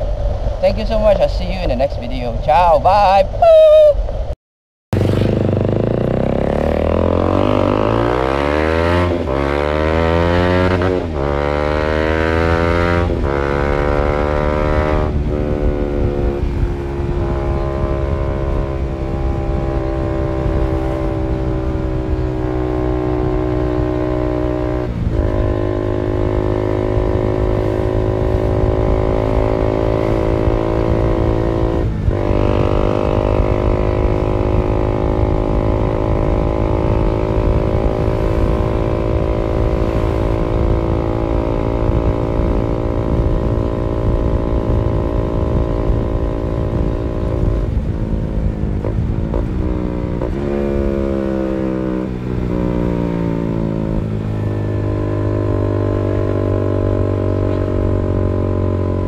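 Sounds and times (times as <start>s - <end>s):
motorcycle engine cruising: 4.9s - 59.0s.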